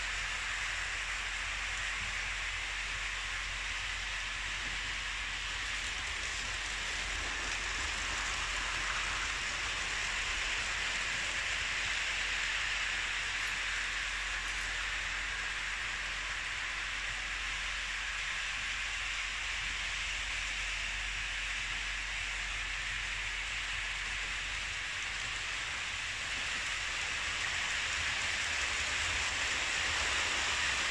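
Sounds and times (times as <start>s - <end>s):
model trains rolling on track: 0.0s - 30.9s.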